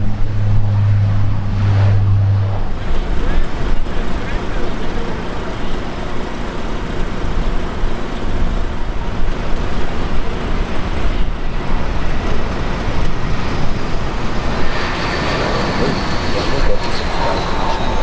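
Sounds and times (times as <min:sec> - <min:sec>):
jet airliner roar: 0:00.0 - 0:18.0.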